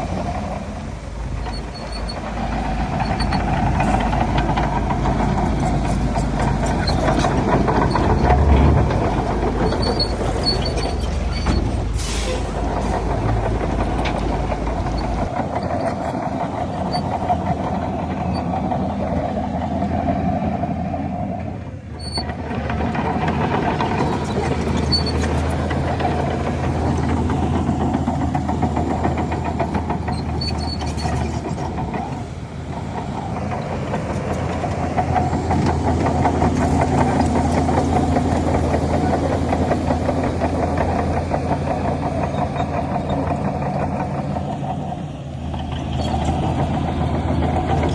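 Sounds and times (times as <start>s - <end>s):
heavy diesel machinery engine drone: 0.0s - 47.9s.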